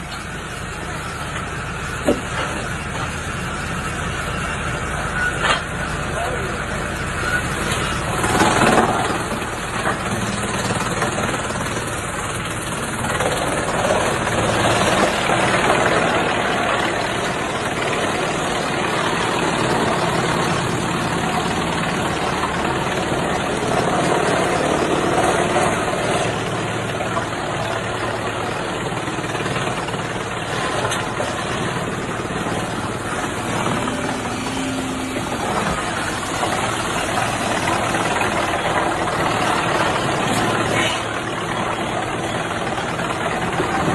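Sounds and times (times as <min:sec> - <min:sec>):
wood chipper running: 0:00.0 - 0:43.9.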